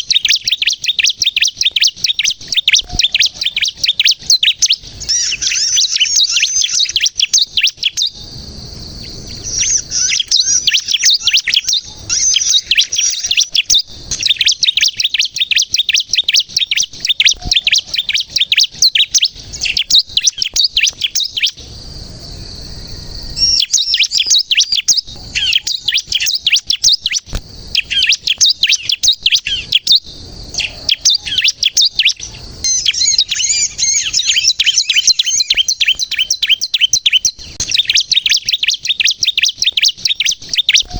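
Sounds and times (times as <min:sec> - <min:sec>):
bird chirping rapidly: 0:00.0 - 0:21.6, 0:23.3 - 0:40.9.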